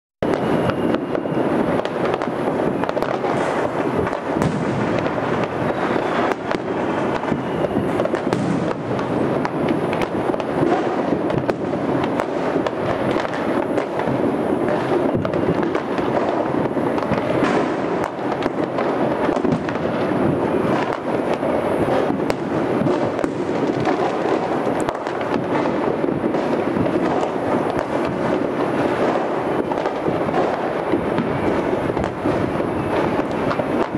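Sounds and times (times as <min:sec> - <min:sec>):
distant fireworks and firecrackers: 0:00.2 - 0:33.9.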